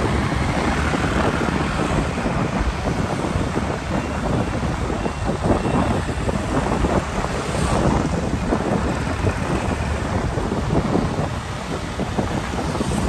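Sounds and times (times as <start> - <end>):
motorcycle engines running: 0.0 - 13.0
wind buffeting microphone: 0.0 - 13.0.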